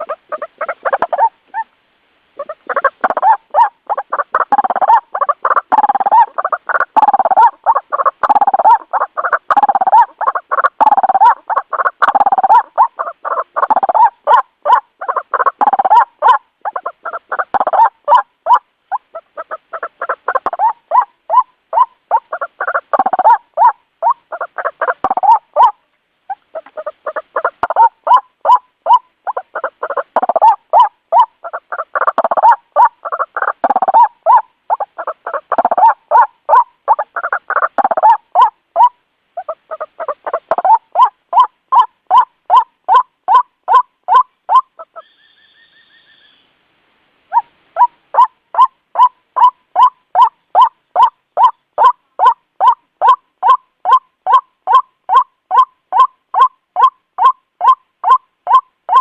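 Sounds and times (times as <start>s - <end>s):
waterhen harsh calls: 0.0s - 1.7s, 2.4s - 46.6s, 47.3s - 59.0s.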